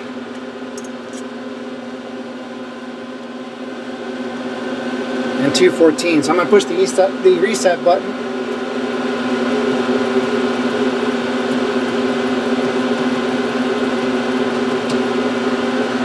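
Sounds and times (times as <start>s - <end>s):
electrical cabinet hum: 0.0s - 16.0s.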